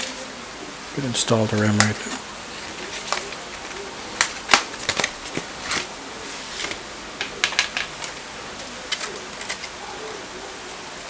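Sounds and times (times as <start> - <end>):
plastic packaging clicking and crackling: 1.5 - 10.8.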